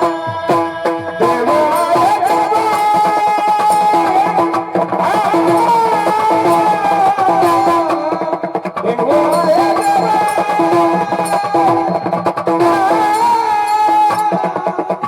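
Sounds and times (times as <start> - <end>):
percussion strokes: 0.0 - 15.0
wavering melody: 0.0 - 15.0.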